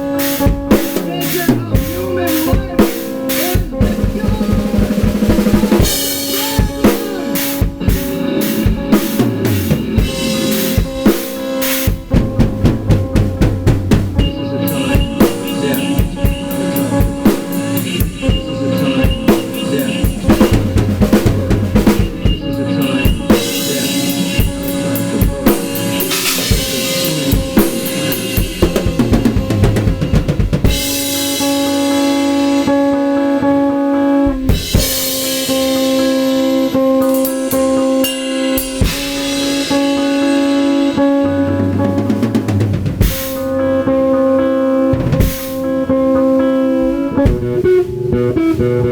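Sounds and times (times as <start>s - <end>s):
cymbal wash: 0.0s - 48.8s
drum kit playing: 0.0s - 48.9s
riff of held pitched notes: 0.0s - 48.9s.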